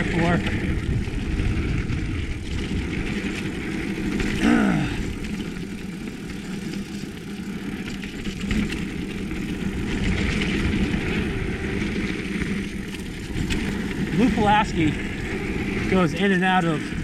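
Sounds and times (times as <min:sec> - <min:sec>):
wind rushing over microphone: 0:00.0 - 0:06.2, 0:08.4 - 0:17.0
bike tyres rumbling on dirt: 0:00.0 - 0:17.0.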